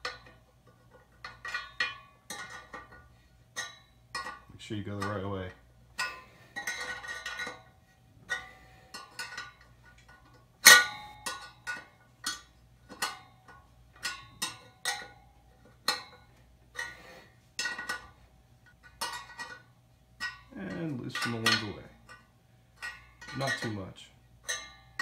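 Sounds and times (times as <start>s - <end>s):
spoke wrench clinking on spokes: 0.0s - 17.0s, 17.6s - 25.0s.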